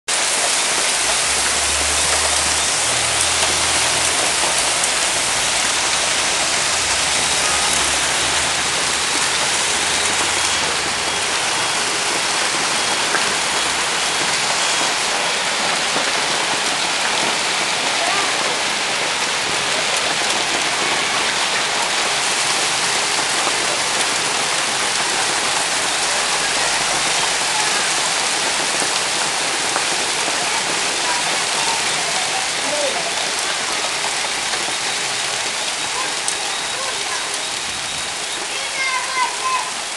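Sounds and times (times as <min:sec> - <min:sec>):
heavy rain drumming: 0:00.1 - 0:39.9.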